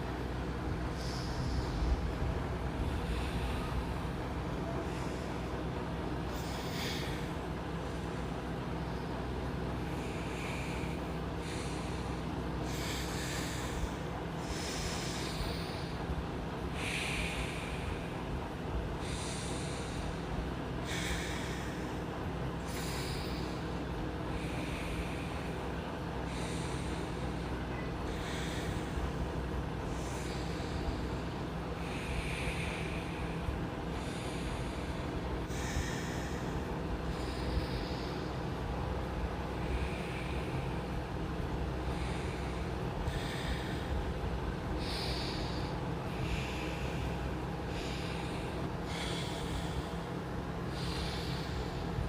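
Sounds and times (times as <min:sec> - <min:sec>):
air cooler humming: 0:00.0 - 0:52.0
person breathing forcefully through nose: 0:00.0 - 0:52.0.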